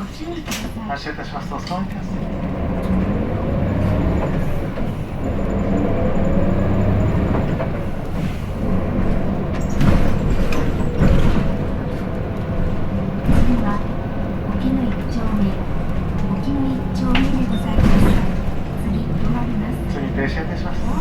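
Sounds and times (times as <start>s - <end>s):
bus body knocking and rattling: 0.0s - 21.0s
bus engine accelerating: 0.0s - 21.0s.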